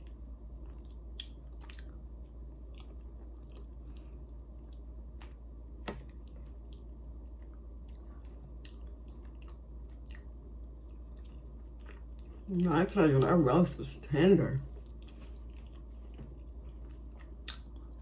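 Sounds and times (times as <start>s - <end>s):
soft wet chewing: 0.0s - 13.5s, 14.6s - 18.0s.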